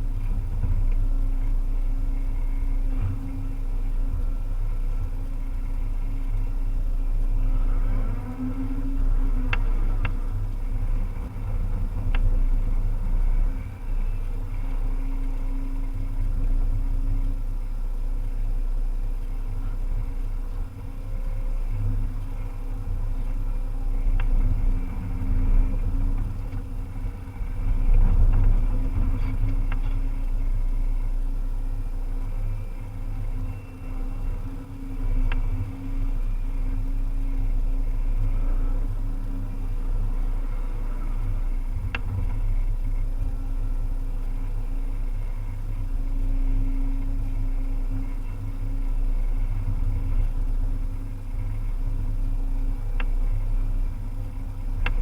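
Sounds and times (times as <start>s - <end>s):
diesel engine deep rumble: 0.0s - 55.0s.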